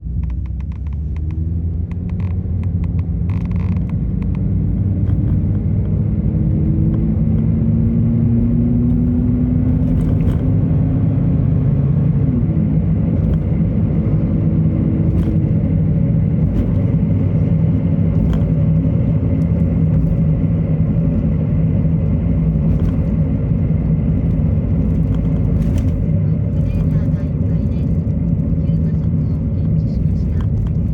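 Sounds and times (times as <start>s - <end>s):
car wheel bearing droning rumble: 0.0s - 30.9s.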